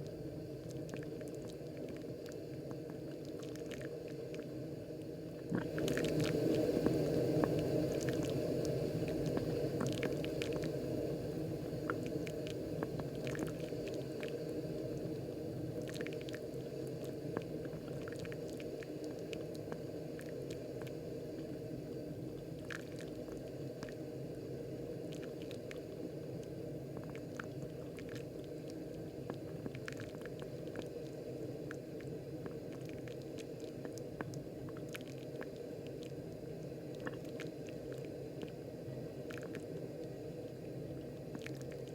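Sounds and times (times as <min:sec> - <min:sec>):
coffee maker bubbling: 0:00.0 - 0:41.9.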